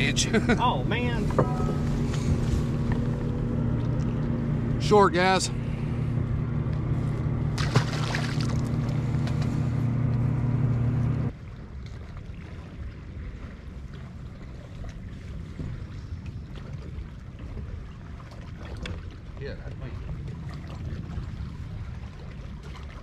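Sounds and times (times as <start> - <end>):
boat motor humming: 0.0 - 23.0
water noise: 0.0 - 23.0
wind: 0.0 - 23.0.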